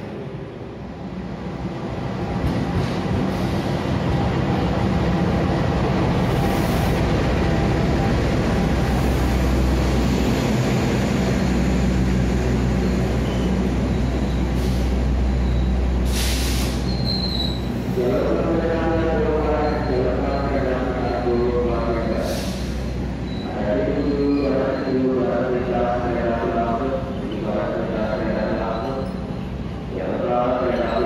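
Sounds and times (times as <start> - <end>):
diesel locomotive engine: 0.0 - 31.0
train coaches rolling by: 0.0 - 31.0.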